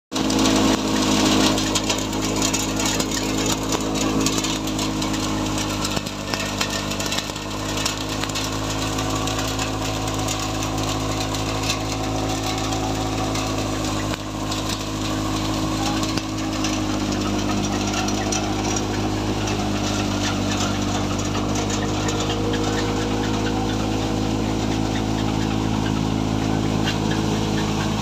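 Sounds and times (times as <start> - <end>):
crackling rush of straw: 0.1 - 28.0
thresher machine drone: 0.1 - 28.0.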